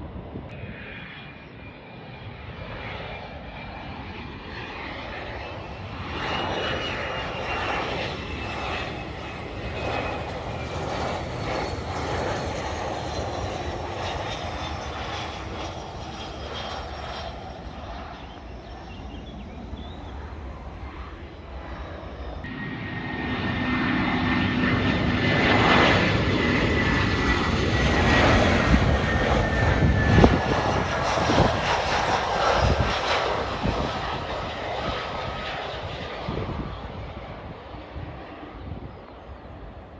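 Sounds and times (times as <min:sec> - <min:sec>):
jet engines rushing and whining: 0:00.0 - 0:39.9.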